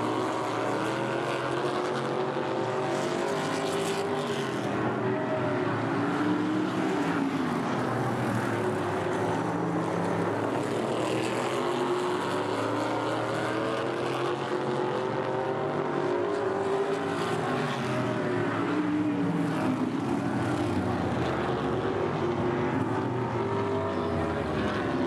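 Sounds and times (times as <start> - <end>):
race car engines passing: 0.0 - 25.0.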